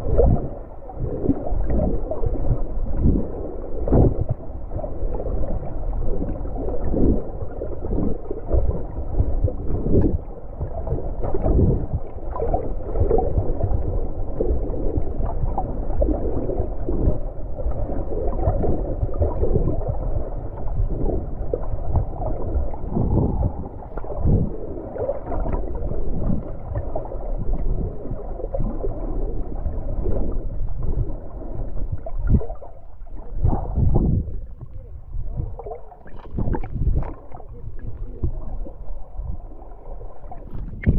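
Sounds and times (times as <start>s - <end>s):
muffled underwater sloshing: 0.0s - 40.9s.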